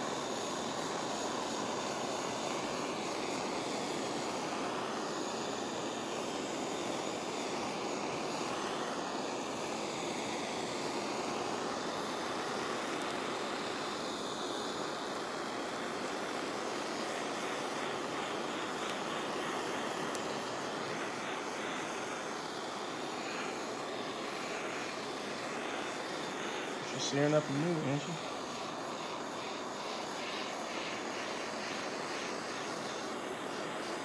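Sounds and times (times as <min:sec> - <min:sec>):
kitchen torch hissing: 0:00.0 - 0:34.0.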